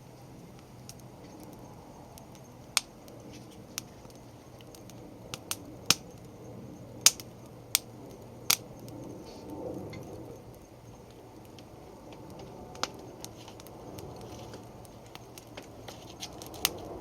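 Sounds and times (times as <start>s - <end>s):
faint steady hiss: 0.0s - 17.0s
firewood crackling and popping: 0.0s - 17.0s.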